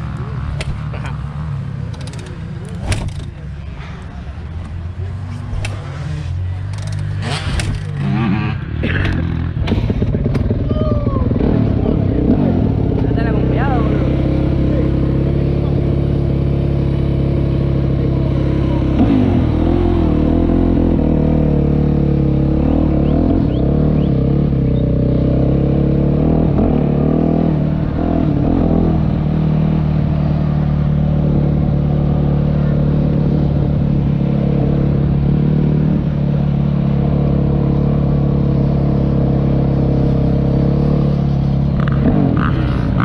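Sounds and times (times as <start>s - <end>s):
motorcycle engine running: 4.2s - 43.0s.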